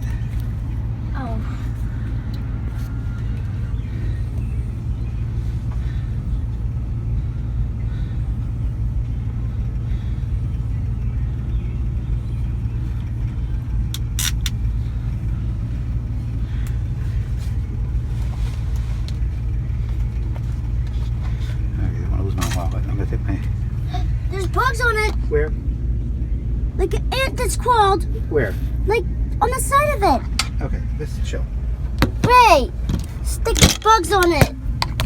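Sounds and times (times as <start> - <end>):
car rumbling: 0.0 - 35.0.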